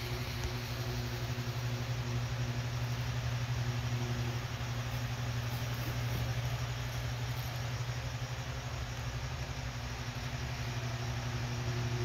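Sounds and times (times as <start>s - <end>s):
fan air rushing: 0.0s - 12.0s
fan motor hum: 0.0s - 12.0s.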